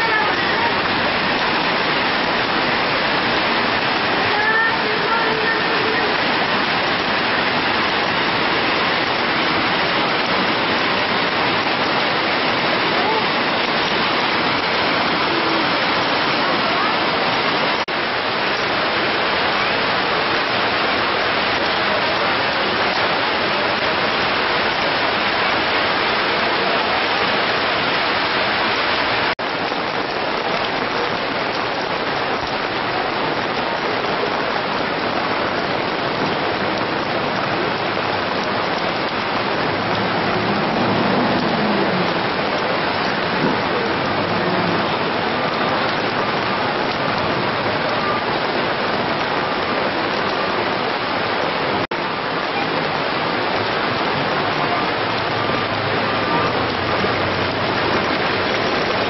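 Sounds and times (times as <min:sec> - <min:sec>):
heavy rain on street: 0:00.0 - 0:59.0
water running over road: 0:00.0 - 0:59.0.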